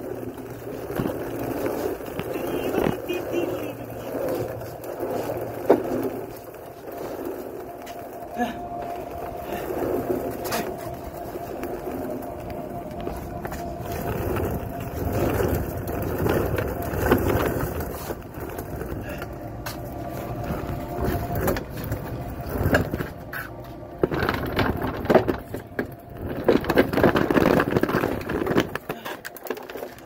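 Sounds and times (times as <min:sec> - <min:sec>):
cart wheels rolling on concrete: 0:00.0 - 0:30.0.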